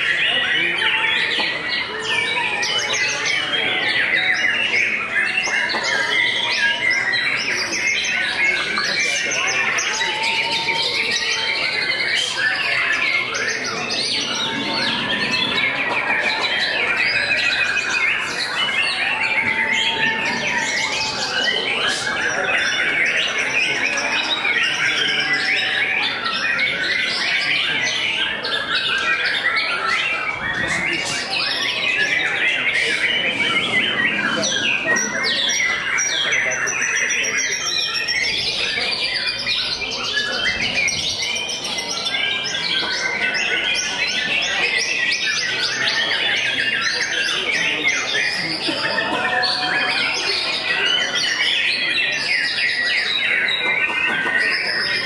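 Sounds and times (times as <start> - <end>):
bird singing whistles and chatter: 0.0 - 55.0.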